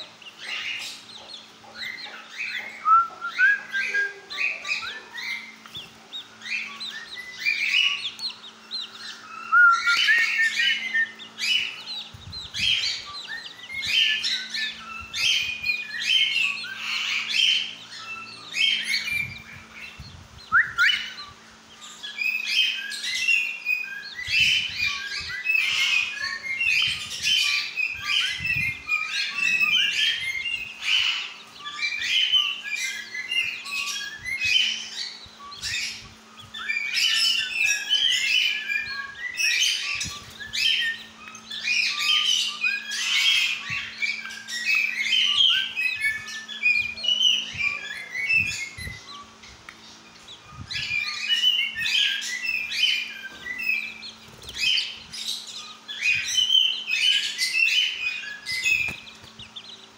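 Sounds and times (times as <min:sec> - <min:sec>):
small parrots chirping: 0:00.0 - 0:59.9.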